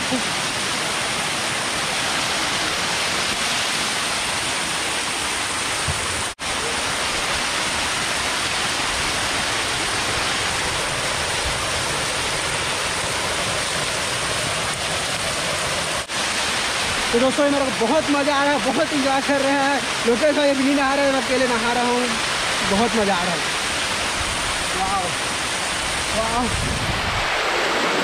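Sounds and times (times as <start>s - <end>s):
waterfall splashing over rocks: 0.0s - 28.0s.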